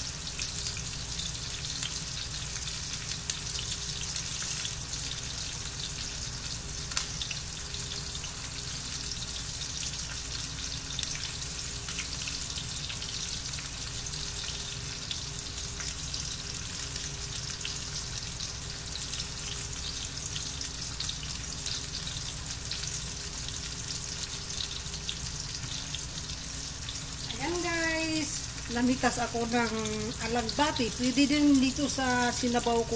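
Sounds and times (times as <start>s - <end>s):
fish frying in oil: 0.0s - 32.9s.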